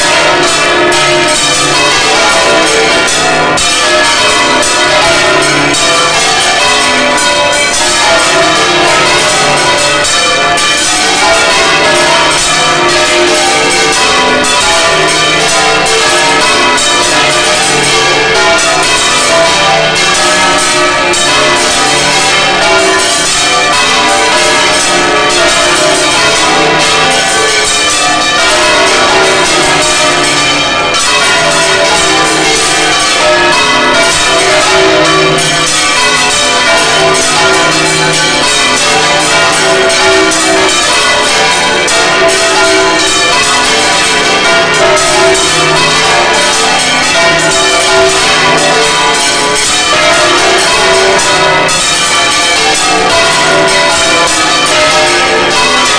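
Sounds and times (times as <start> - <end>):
large church bells pealing: 0.0 - 55.9.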